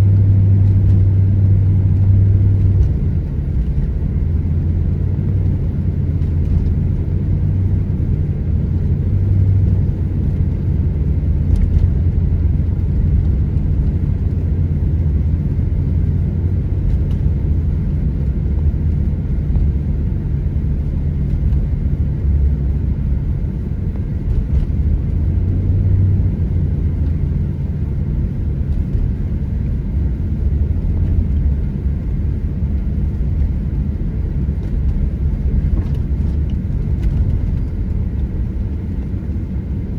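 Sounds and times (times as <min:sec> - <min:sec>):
car driving on snowy road: 0:00.0 - 0:39.9.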